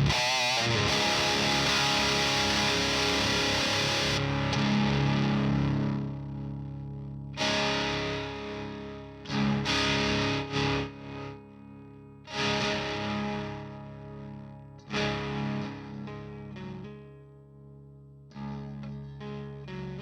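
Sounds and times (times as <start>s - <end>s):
distorted electric guitar chords: 0.0s - 20.0s.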